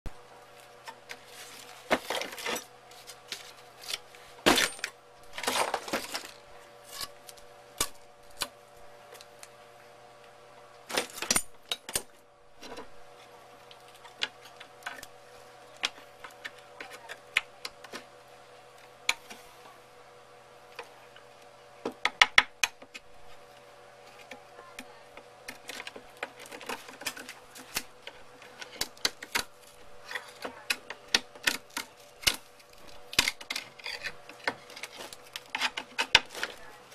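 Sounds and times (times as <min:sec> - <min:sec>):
faint steady hum: 0:00.1 - 0:36.9.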